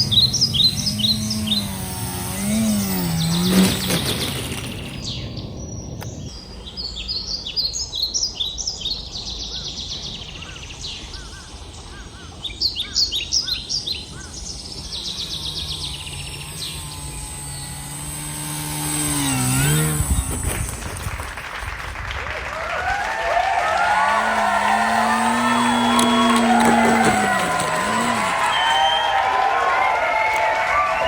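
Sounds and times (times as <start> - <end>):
model plane propeller droning: 0.0 - 9.7, 10.4 - 22.0, 22.8 - 29.8
birds chirping: 0.0 - 22.2, 22.8 - 29.7.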